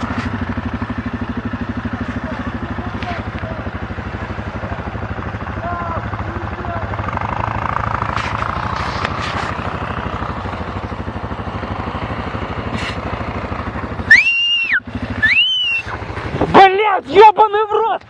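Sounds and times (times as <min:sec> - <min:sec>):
quad bike engine idling: 0:00.0 - 0:18.0.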